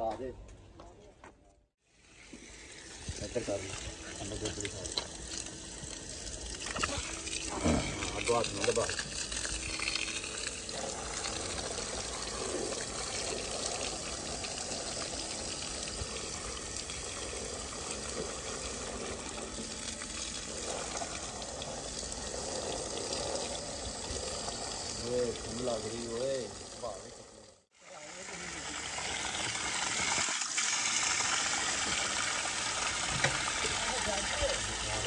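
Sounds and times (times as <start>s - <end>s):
water gushing from a pipe: 1.9s - 35.0s
water splashing on grass and paving: 2.1s - 27.0s, 28.0s - 35.0s.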